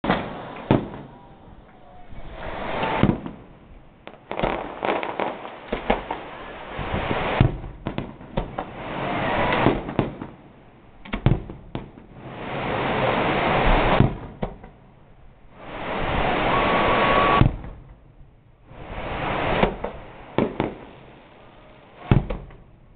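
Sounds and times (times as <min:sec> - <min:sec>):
fireworks bangs: 0:00.0 - 0:14.8, 0:15.4 - 0:22.8
dense fireworks crackling: 0:00.0 - 0:22.9.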